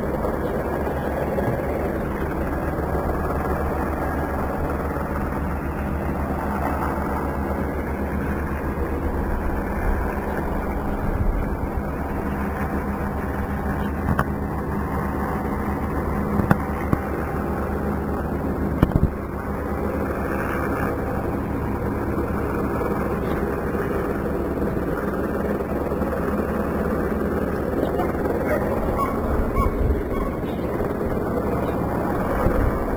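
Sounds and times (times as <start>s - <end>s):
engine pulsing rumble: 0.0s - 32.9s.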